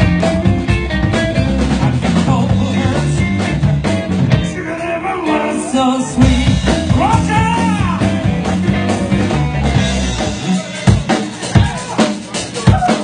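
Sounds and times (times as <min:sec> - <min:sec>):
drum kit: 0:00.0 - 0:13.0
electric bass: 0:00.0 - 0:13.0
electric guitar: 0:00.0 - 0:13.0.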